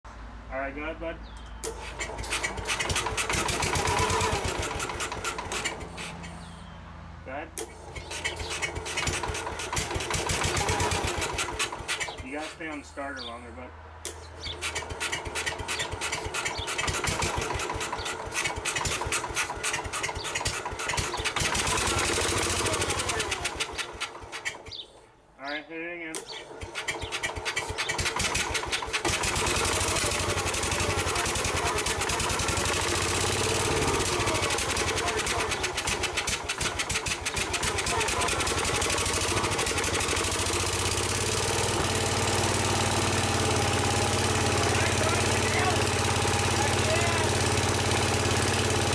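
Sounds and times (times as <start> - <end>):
tractor engine cranking and firing: 1.3 - 6.6, 7.3 - 13.3, 14.0 - 25.1, 26.0 - 48.9.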